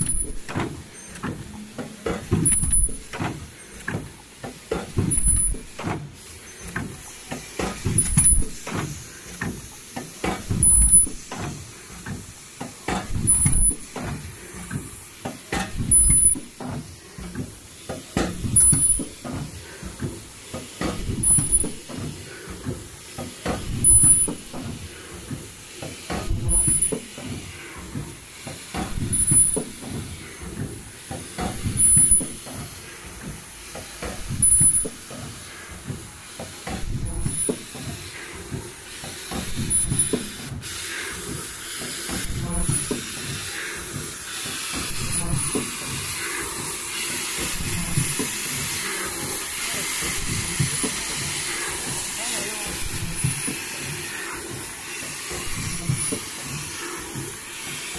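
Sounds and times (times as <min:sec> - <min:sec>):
compressed air hiss: 0:00.0 - 0:57.9
pneumatic grippers clacking: 0:00.0 - 0:57.9.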